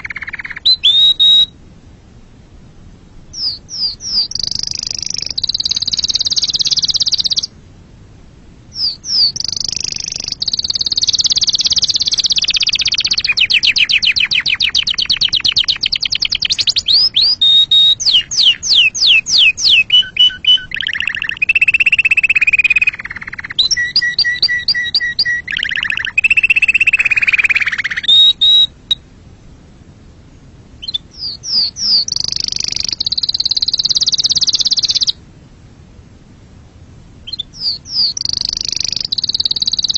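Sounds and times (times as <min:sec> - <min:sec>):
canary singing trills and whistles: 0:00.0 - 0:01.6, 0:03.3 - 0:07.5, 0:08.7 - 0:29.0, 0:30.8 - 0:35.2, 0:37.2 - 0:39.9.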